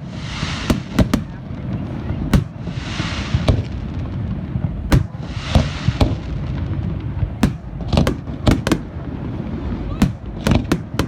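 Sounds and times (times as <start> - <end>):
firework shells bursting: 0.0 - 1.5, 2.3 - 11.0
fireworks hissing crackle: 0.0 - 11.0.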